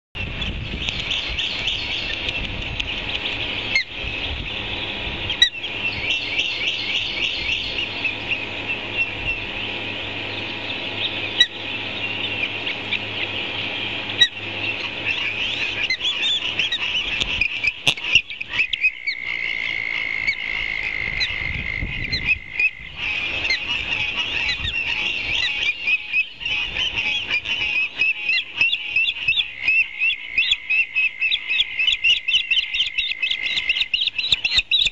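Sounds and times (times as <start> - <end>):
ospreys whistled chirps: 3.7 - 34.9.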